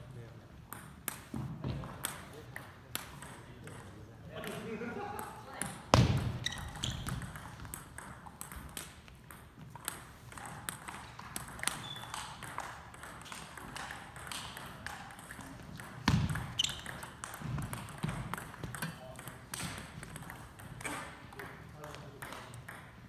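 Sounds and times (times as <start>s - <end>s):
ping pong ball clicking: 1.9s - 3.9s, 6.5s - 23.0s.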